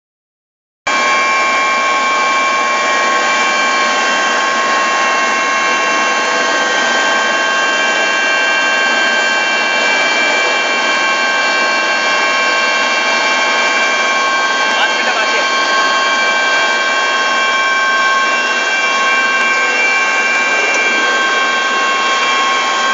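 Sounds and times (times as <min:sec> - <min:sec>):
helicopter engine and rotor: 0:00.9 - 0:22.9.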